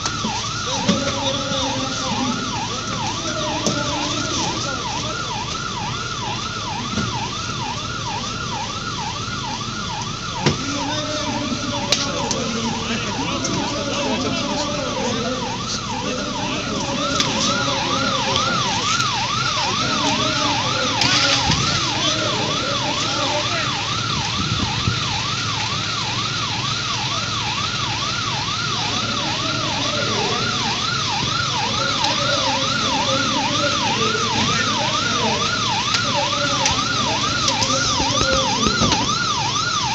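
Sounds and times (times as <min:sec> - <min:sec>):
fire engine siren yelping: 0:00.0 - 0:39.9.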